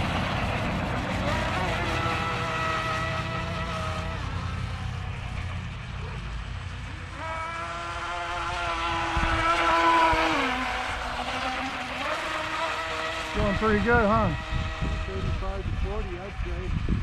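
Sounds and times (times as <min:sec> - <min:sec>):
rc boat motor whine: 0:00.0 - 0:17.0.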